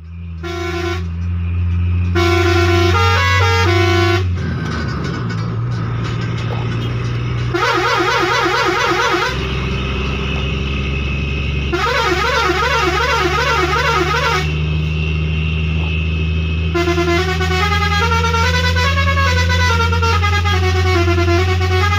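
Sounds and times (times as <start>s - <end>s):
steady low hum: 0.0s - 21.9s
truck musical air horn: 0.2s - 4.9s, 5.9s - 21.9s.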